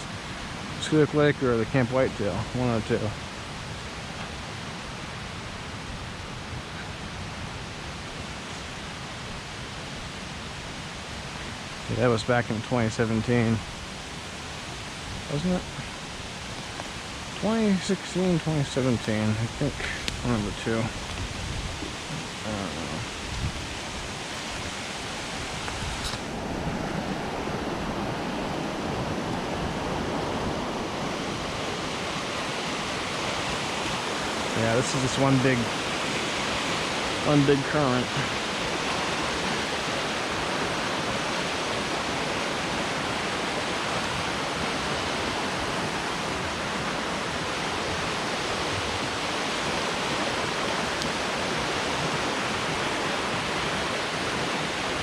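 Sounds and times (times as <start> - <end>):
fast-flowing stream water rushing: 0.0 - 55.0.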